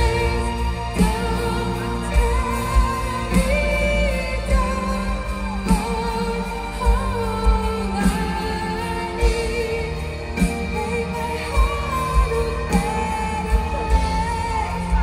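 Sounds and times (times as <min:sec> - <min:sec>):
symphonic metal band playing live: 0:00.0 - 0:15.0
woman singing long held notes: 0:00.0 - 0:15.0.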